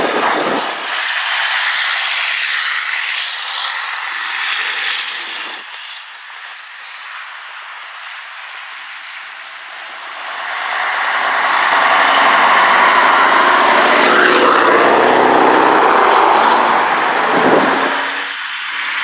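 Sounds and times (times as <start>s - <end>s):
truck diesel engine passing: 0.0s - 19.0s.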